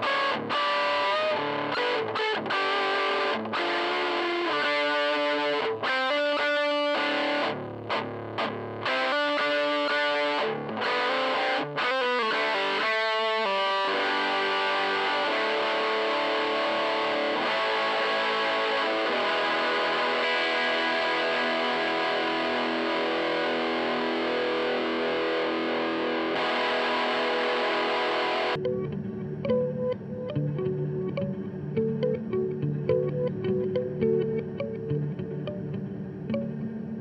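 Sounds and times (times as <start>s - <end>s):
distorted electric guitar chords: 0.0s - 37.0s.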